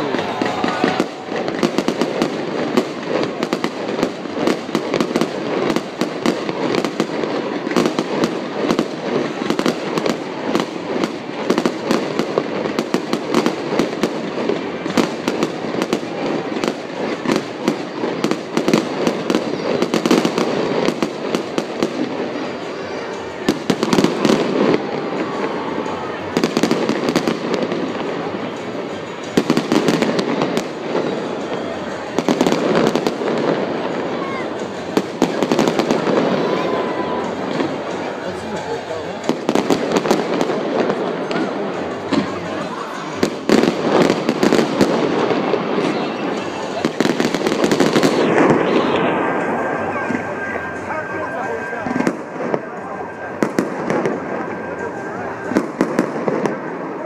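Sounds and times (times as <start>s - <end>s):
fireworks crackling and bangs: 0.0s - 57.0s.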